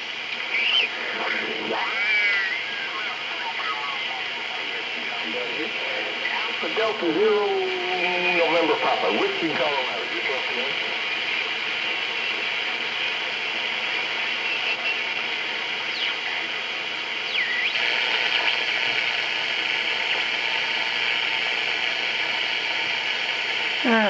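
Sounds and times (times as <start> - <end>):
shortwave radio static hiss: 0.0 - 24.0.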